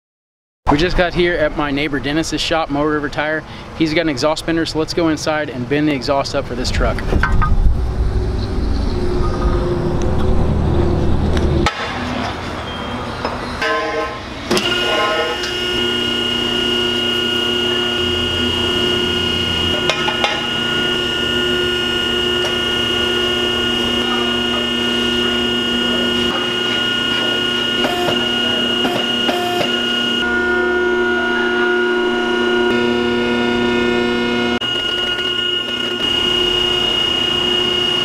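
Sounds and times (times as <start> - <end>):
hydraulic pipe bender humming: 6.9 - 38.0.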